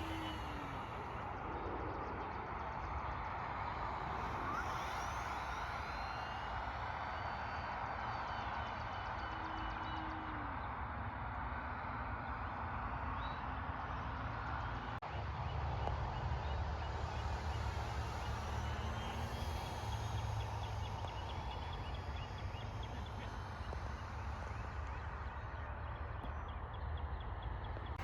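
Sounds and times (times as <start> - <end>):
model airplane motor whining: 0.0 - 11.2, 15.2 - 26.4.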